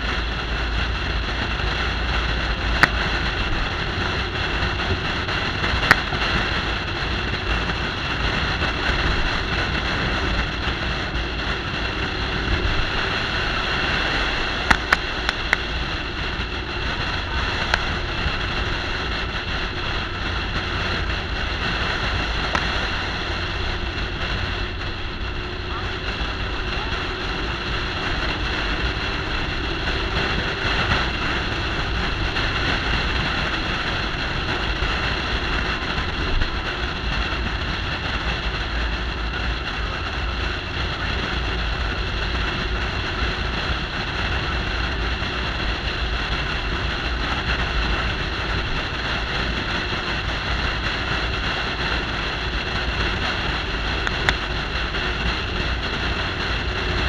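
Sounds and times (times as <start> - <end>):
wind buffeting microphone: 0.0 - 57.0
wind rush and road noise: 0.0 - 57.0.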